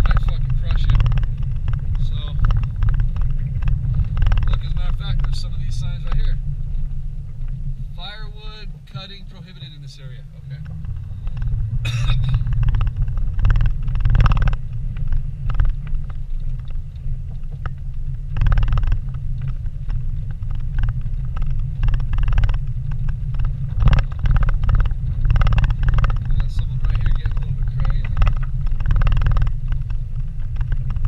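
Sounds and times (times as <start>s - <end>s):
engine and tyre rumble: 0.0s - 31.0s
knocks and rattles over bumps: 0.0s - 31.0s.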